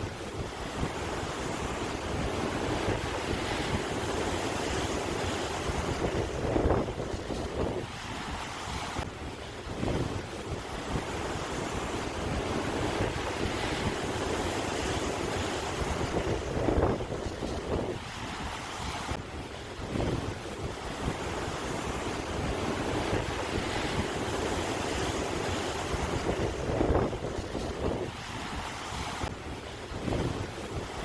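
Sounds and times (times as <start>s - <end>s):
sea waves washing in: 0.0s - 31.0s
wind buffeting microphone: 0.0s - 31.0s.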